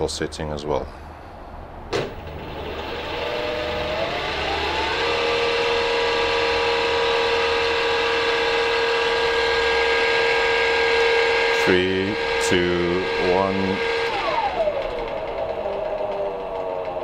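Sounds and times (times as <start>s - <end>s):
electric motor whine: 2.0s - 17.0s.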